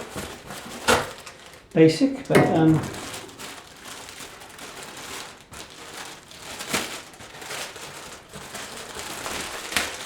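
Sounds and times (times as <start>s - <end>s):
crinkling and rustling handling: 0.0s - 10.0s.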